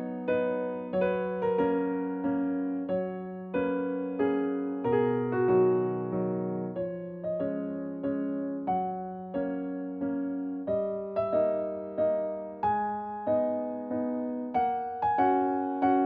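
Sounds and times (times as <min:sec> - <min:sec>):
electric piano chords: 0:00.0 - 0:16.0.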